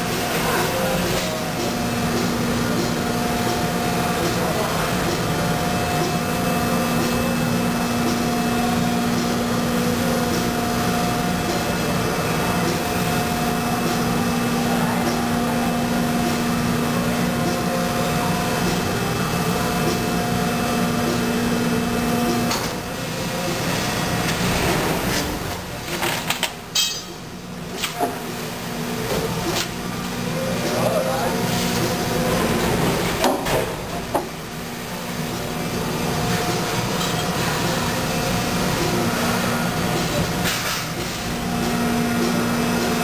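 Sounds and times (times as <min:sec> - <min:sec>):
steady machine tone: 0:00.0 - 0:25.9, 0:26.6 - 0:43.0
machine hum: 0:00.0 - 0:43.0.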